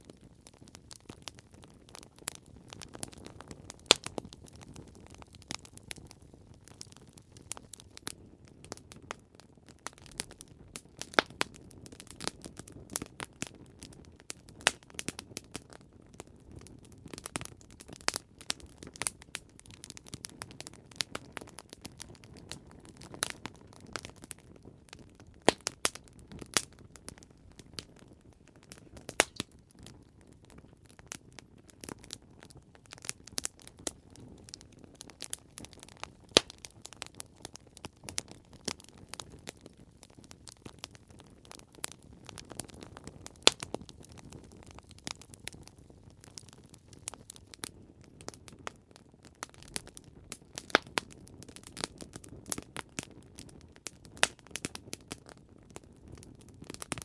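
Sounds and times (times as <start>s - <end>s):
flames rumbling: 0.0s - 57.0s
wood crackling and popping: 0.0s - 57.0s.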